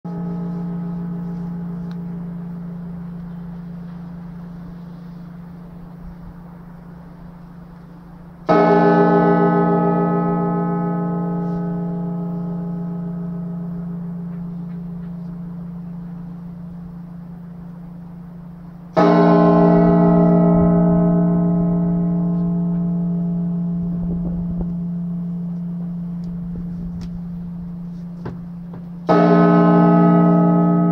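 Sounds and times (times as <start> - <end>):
large bell tolling: 0.1 - 30.9.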